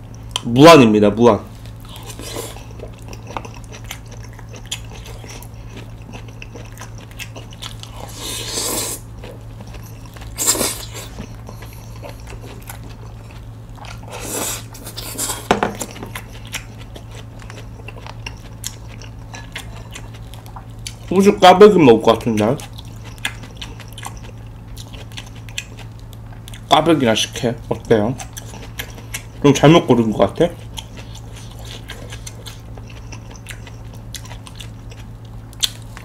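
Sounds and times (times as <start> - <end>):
steady low hum: 0.0 - 36.0
chewing and biting food: 1.6 - 36.0.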